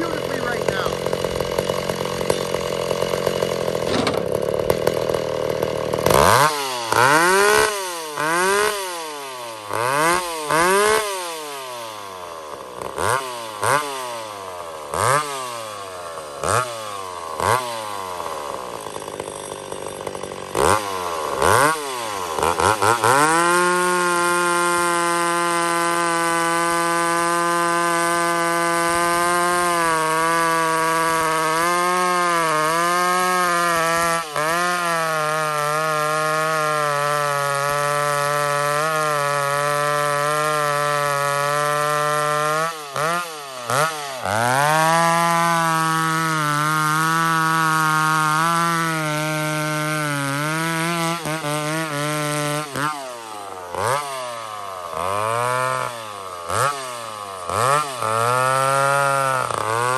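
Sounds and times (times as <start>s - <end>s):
chainsaw revving and cutting: 0.0s - 59.9s.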